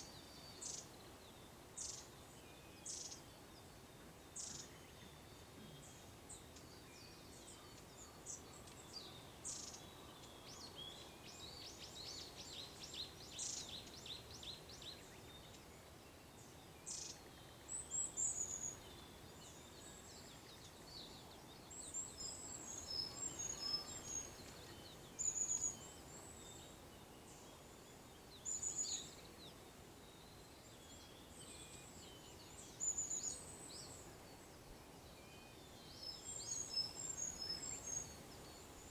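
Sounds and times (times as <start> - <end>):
faint outdoor hiss: 0.0 - 38.9
songbirds chirping: 0.0 - 38.9.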